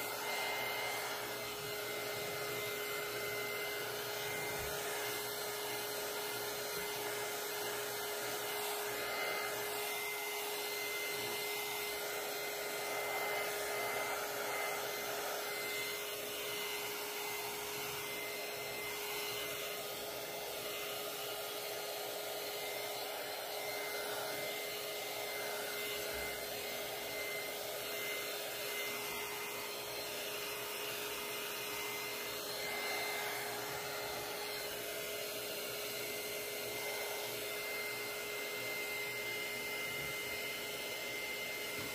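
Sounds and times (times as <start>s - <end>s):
heat gun whirring: 0.0s - 41.9s.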